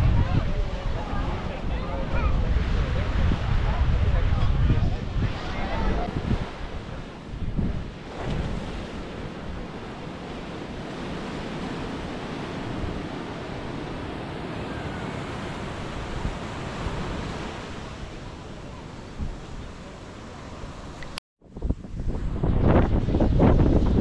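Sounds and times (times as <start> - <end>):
waves breaking on shore: 0.0 - 24.0
wind on microphone: 0.0 - 24.0.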